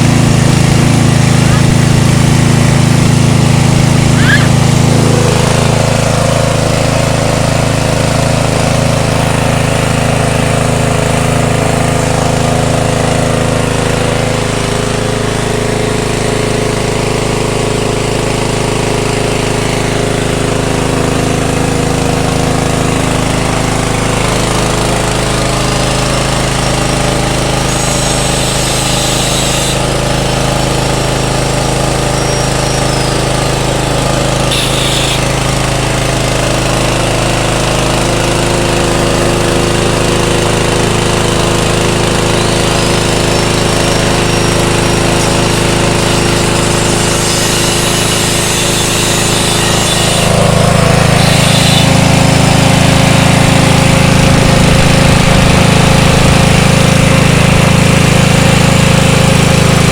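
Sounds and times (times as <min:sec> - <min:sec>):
petrol engine running under load: 0:00.0 - 0:59.9.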